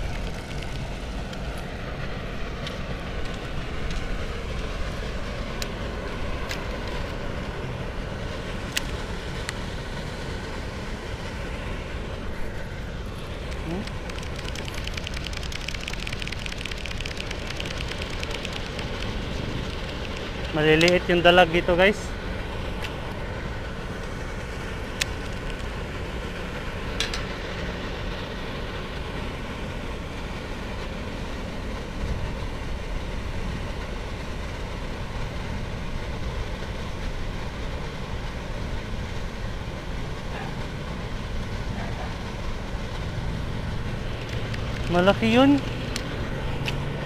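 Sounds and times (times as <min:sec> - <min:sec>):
rumbling outdoor background noise: 0:00.0 - 0:47.0.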